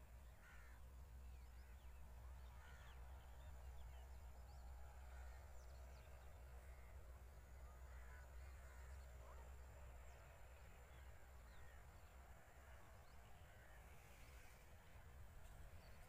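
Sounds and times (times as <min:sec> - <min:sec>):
distant bird calls: 0:00.0 - 0:16.0.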